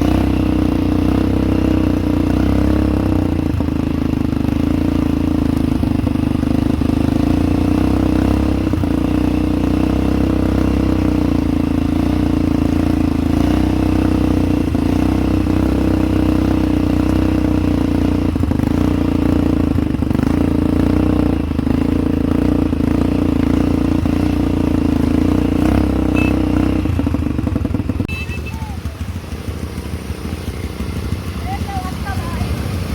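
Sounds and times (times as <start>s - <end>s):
atv engine running: 0.0s - 32.9s.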